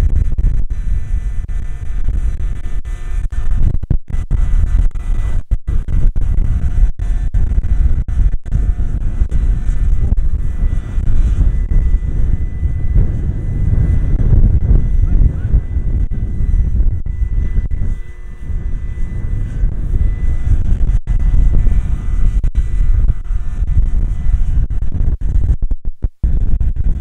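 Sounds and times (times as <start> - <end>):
high whine: 0.0 - 27.0
model helicopter rotor rumble: 0.0 - 27.0.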